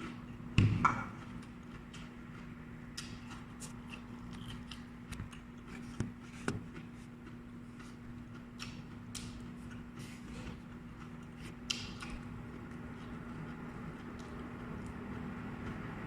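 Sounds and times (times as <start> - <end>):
person chewing crunchy vegetables: 0.0 - 15.9
steady low hum: 0.0 - 16.0.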